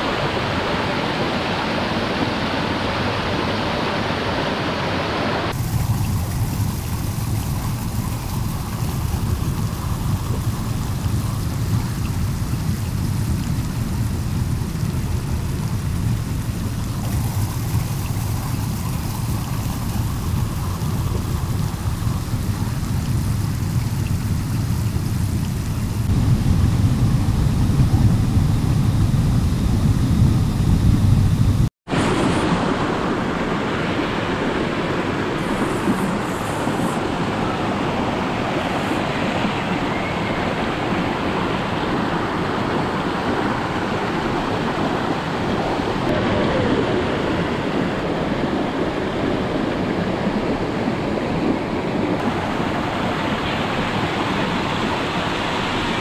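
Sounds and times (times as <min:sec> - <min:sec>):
river rushing over rocks: 0:00.0 - 0:26.2, 0:31.9 - 0:56.0.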